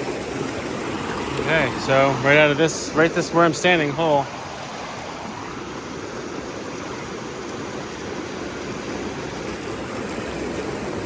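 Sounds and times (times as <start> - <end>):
creek rushing into a pool: 0.0 - 11.0.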